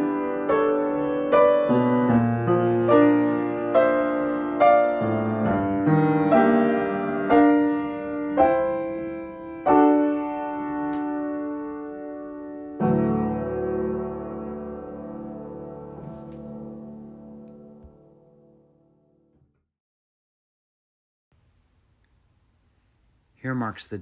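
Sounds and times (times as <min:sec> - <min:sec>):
slow solo piano: 0:00.0 - 0:19.6.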